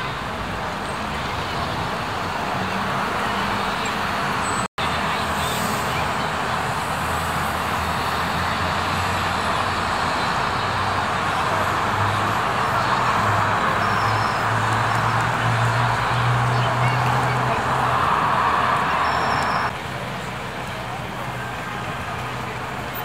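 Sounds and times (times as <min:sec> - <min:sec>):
cars and buses driving past: 0:00.0 - 0:23.0.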